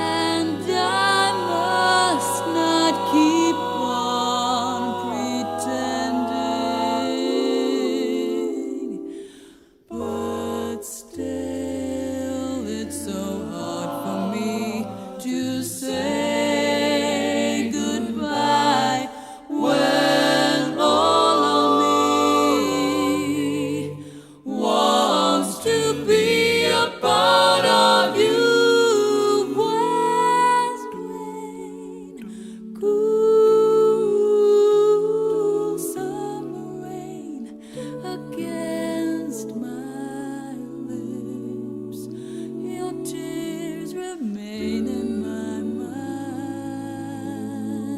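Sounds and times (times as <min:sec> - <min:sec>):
voices singing long notes: 0:00.0 - 0:47.9.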